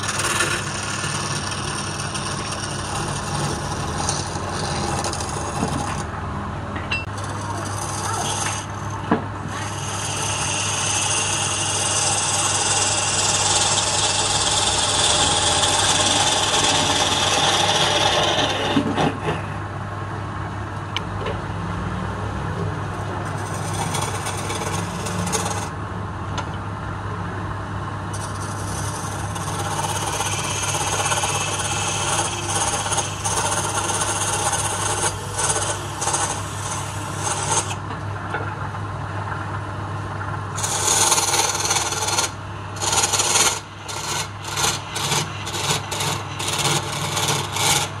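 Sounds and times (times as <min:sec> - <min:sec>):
chisel scraping spinning wood: 0:00.0 - 0:06.1, 0:07.0 - 0:19.5, 0:22.9 - 0:25.8, 0:28.1 - 0:38.6, 0:40.3 - 0:48.0
lathe motor humming: 0:00.0 - 0:06.2, 0:07.1 - 0:19.3, 0:22.8 - 0:25.8, 0:28.1 - 0:37.9, 0:40.1 - 0:48.0.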